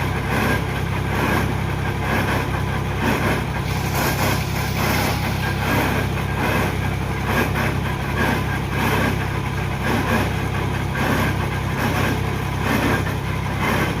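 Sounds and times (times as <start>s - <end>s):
diesel engine running steadily: 0.0s - 14.0s.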